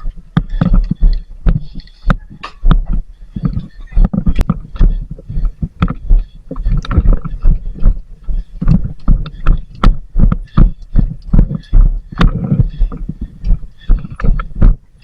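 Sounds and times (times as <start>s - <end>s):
thumps and knocks of movement: 0.0s - 15.0s.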